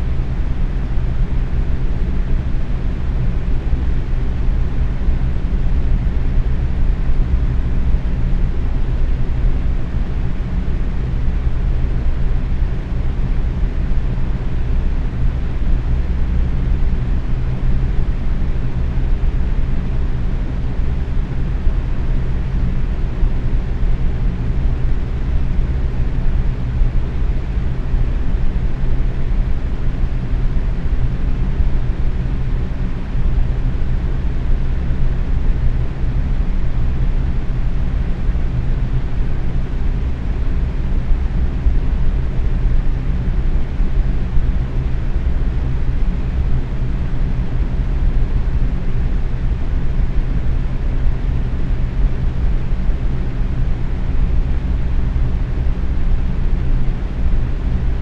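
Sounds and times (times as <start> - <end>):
box fan running: 0.0 - 58.0.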